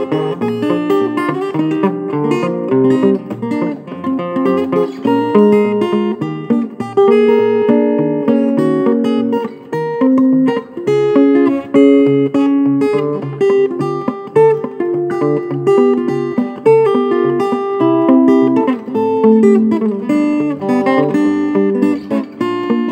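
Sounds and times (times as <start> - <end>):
fingerstyle acoustic guitar: 0.0 - 22.9.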